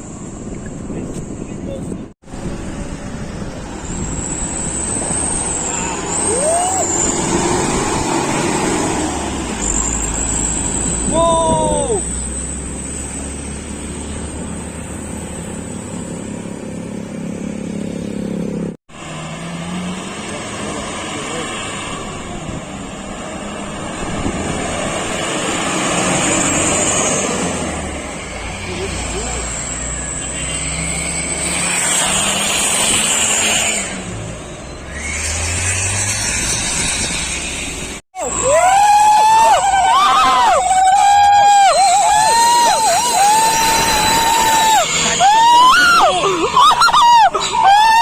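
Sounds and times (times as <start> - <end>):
road traffic noise: 0.0 - 48.0
heavy truck engine droning: 2.2 - 48.0.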